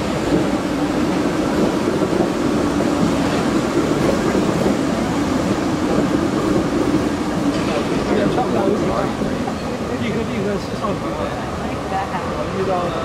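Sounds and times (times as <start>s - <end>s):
tram wheels on rails: 0.0s - 13.0s.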